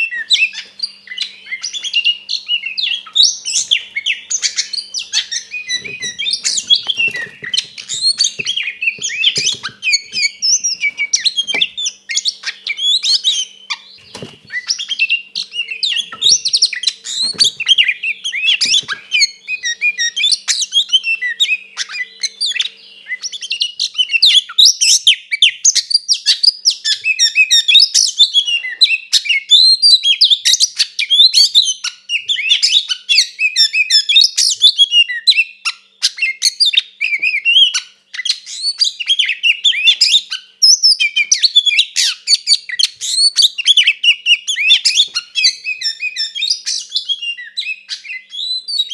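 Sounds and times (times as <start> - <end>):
magpie-robin singing: 0.0 - 48.9.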